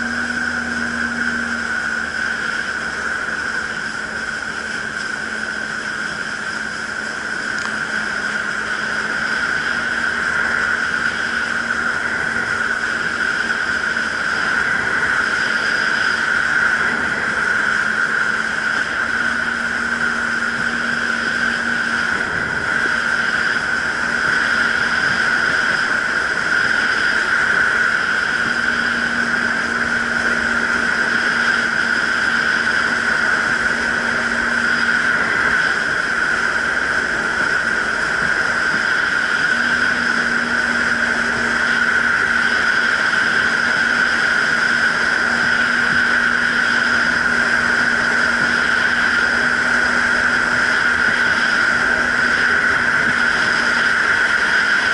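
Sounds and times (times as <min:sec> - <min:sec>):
jet ski engine whine: 0:00.0 - 0:54.9
rushing water: 0:00.0 - 0:54.9
wind noise: 0:00.0 - 0:54.9.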